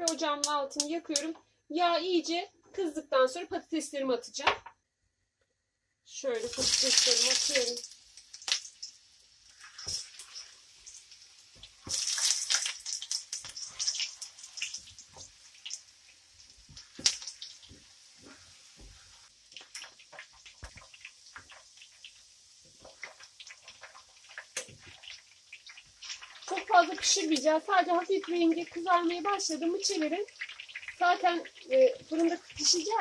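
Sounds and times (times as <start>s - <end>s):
potatoes frying in hot oil: 6.3s - 33.0s.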